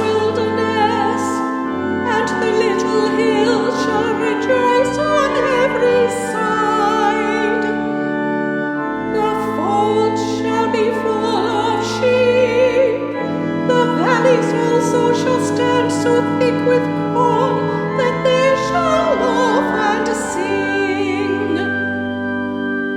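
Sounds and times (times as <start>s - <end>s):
church organ chords: 0.0s - 22.9s.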